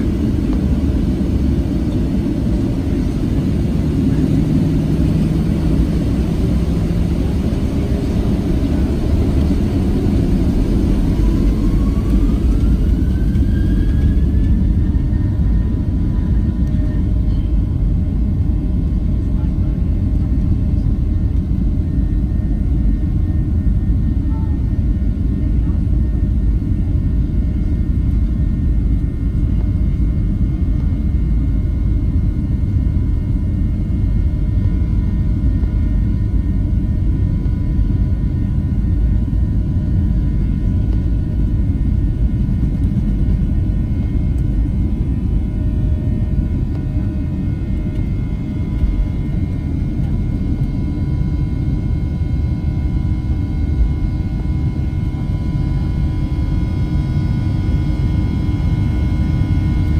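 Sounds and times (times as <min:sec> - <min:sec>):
jet engine cabin rumble: 0:00.0 - 0:59.9.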